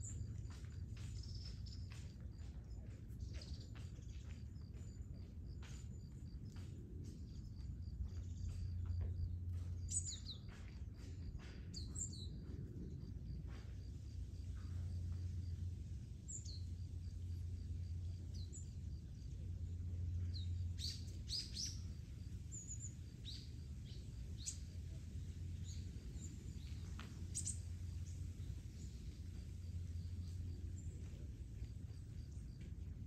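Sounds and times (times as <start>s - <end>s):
small birds chirping: 0.0s - 33.0s
steady low rumble: 0.0s - 33.0s.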